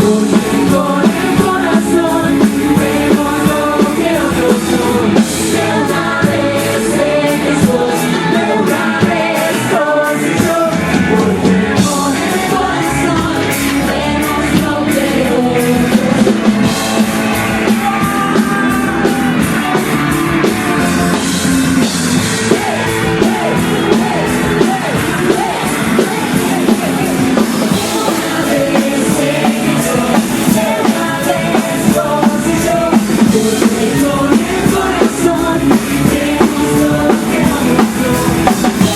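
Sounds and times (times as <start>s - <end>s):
rock band with singer: 0.0s - 38.9s.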